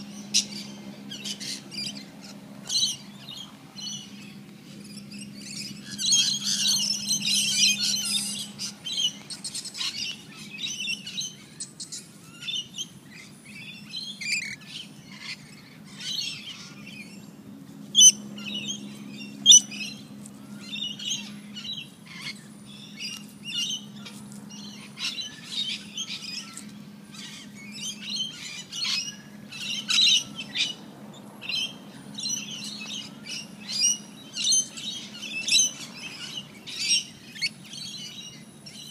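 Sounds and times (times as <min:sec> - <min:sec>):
birds chirping and calling: 0:00.0 - 0:38.9
low steady hum: 0:00.0 - 0:38.9.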